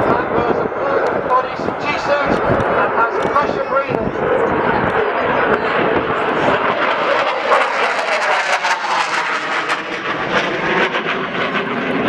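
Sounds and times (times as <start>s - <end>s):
jet engines roaring overhead: 0.0s - 12.0s.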